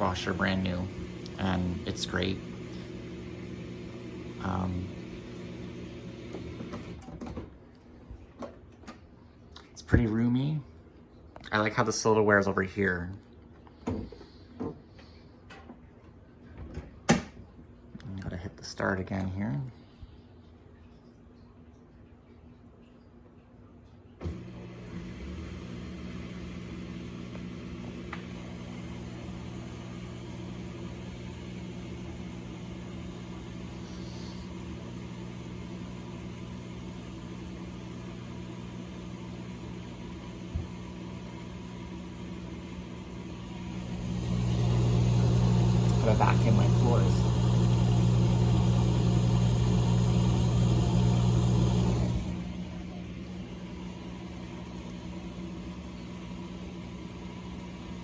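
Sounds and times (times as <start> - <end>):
dishwasher pump motor hum: 0.0 - 58.0.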